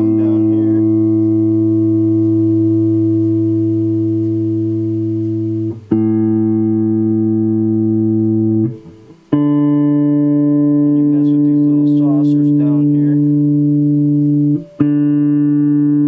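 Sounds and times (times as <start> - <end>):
electric guitar chords: 0.0 - 16.0.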